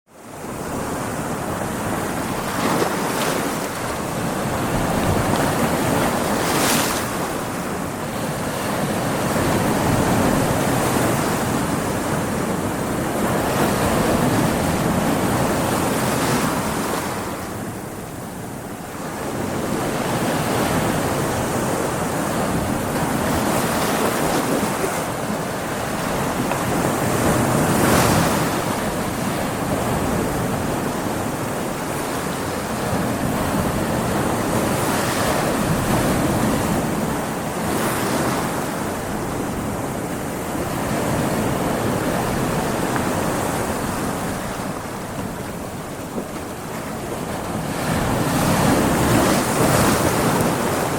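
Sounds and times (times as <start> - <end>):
ocean waves crashing: 0.2 - 50.9
wind on microphone: 0.2 - 50.9.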